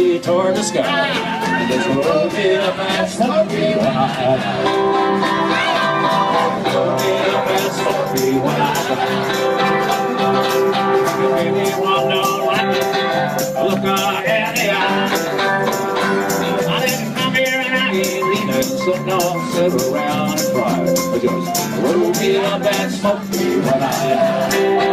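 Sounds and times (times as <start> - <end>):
acoustic guitars strumming: 0.0 - 24.9
country band playing: 0.0 - 24.9
rattling percussion: 0.0 - 24.9.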